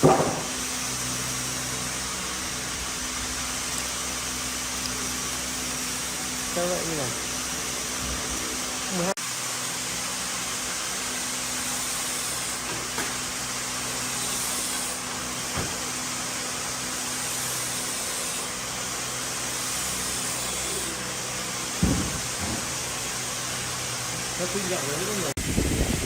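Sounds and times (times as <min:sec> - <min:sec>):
machine hiss and hum: 0:00.0 - 0:26.0.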